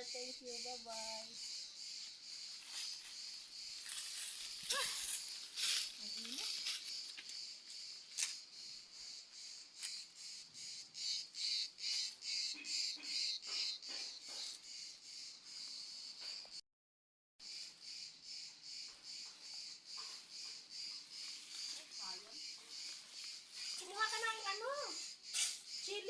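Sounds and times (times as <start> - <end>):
pulsing insect chorus: 0.0 - 16.6, 17.4 - 26.0.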